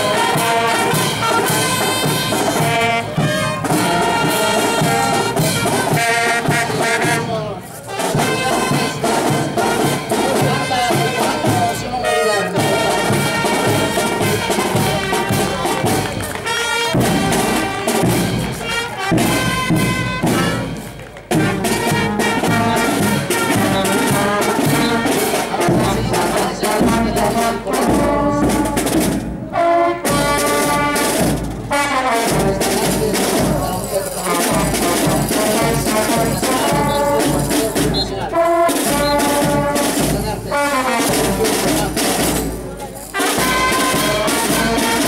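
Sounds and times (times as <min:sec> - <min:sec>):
brass band playing a march: 0:00.0 - 0:45.0.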